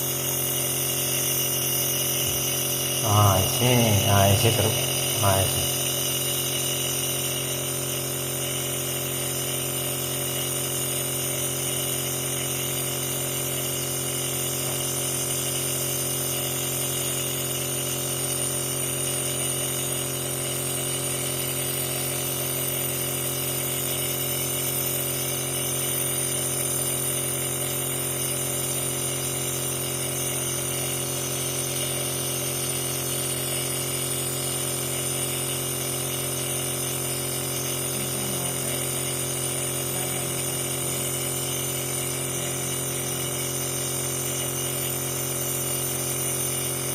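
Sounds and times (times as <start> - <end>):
nebulizer humming and hissing: 0.0 - 46.9.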